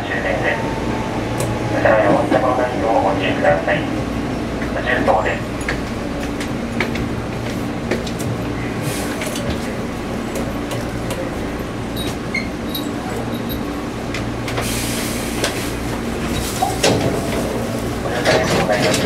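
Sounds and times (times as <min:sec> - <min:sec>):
electric train humming: 0:00.0 - 0:19.0
rail clicks: 0:00.0 - 0:19.0.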